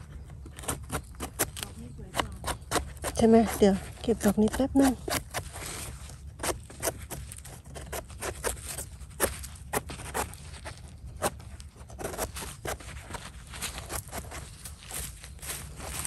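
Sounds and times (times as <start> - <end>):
knife scraping mushroom stem: 0.0 - 16.0.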